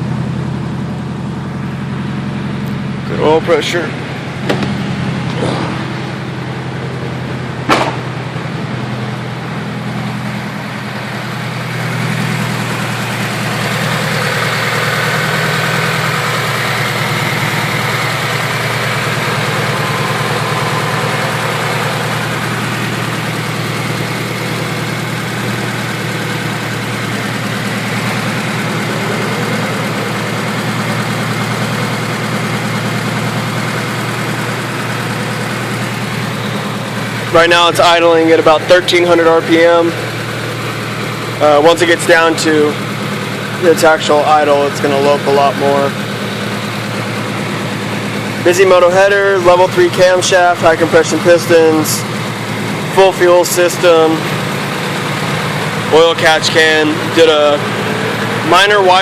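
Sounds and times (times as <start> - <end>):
car engine fast idle: 0.0 - 59.0.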